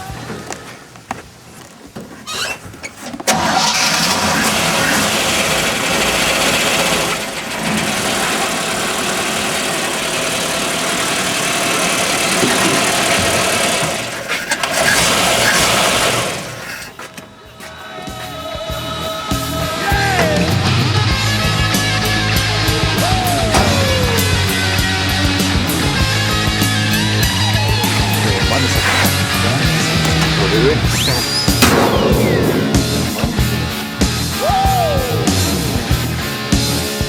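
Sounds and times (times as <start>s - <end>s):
truck engine cranking and running: 0.0s - 37.0s.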